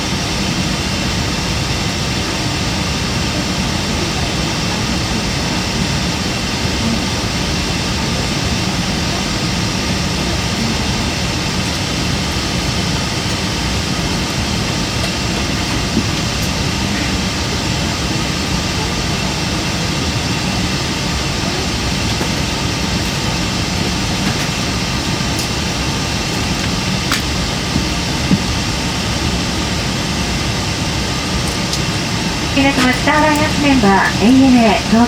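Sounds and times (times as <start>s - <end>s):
jet cabin engine rumble and hiss: 0.0s - 35.0s.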